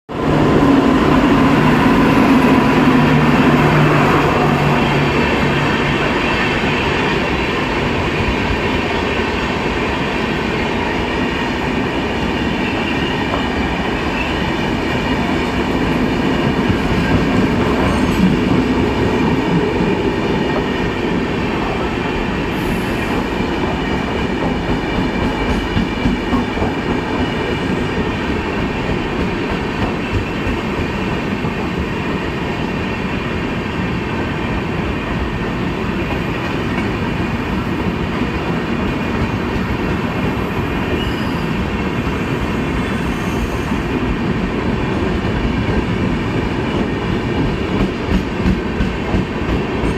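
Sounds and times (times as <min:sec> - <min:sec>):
train wheels rumbling on rails: 0:00.1 - 0:49.9.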